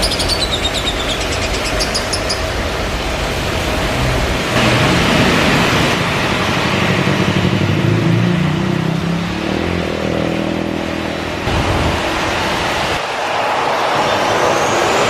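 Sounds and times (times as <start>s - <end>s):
loud engine noise: 2.4s - 15.0s.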